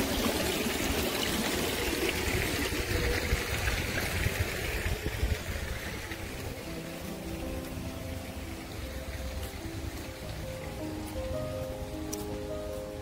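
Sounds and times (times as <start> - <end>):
water pouring: 0.0 - 10.6.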